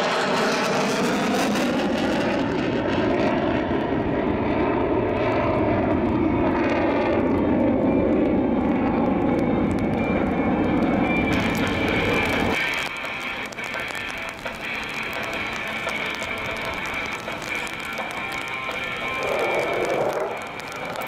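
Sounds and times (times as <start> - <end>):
jet engine on afterburner: 0.0 - 21.0.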